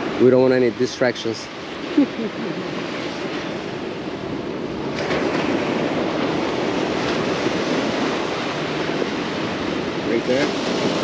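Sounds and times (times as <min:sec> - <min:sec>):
ocean surf washing up beach: 0:00.0 - 0:11.0
wind on microphone: 0:01.5 - 0:11.0.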